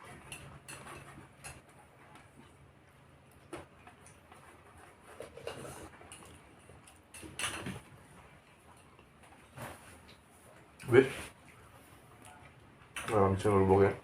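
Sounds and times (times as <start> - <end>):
eating clicks and scrapes: 0.0 - 13.2.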